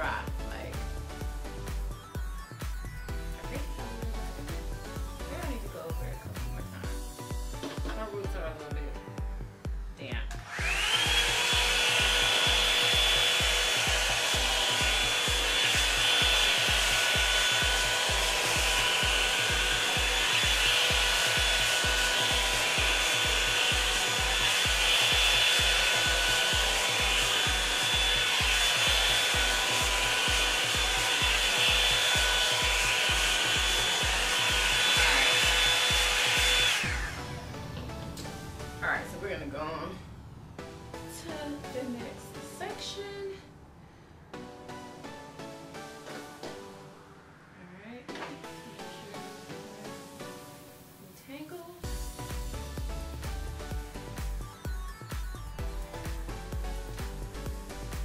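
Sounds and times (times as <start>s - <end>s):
hair dryer whining: 0.0s - 43.0s, 44.4s - 58.0s.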